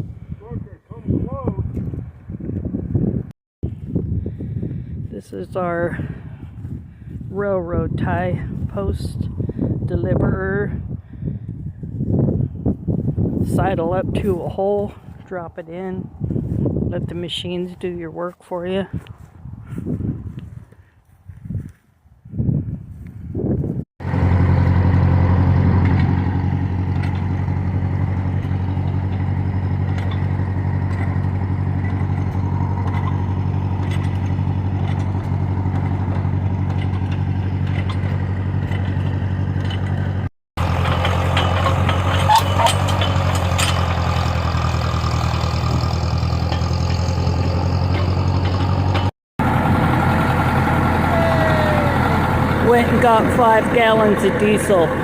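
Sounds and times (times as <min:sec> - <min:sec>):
diesel engine running: 0:00.0 - 0:20.8, 0:24.0 - 0:55.0.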